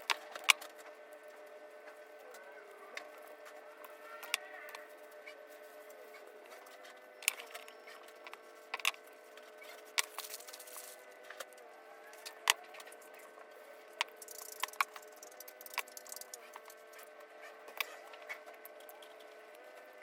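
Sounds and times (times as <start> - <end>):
faint steady tones: 0.0 - 20.0.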